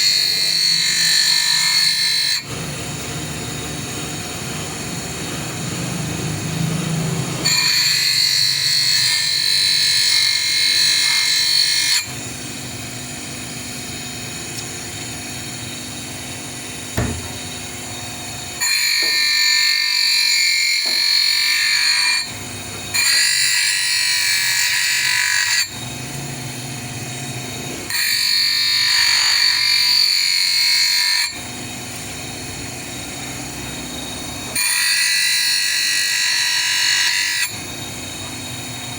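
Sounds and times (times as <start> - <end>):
power tool grinding: 0.0 - 38.9.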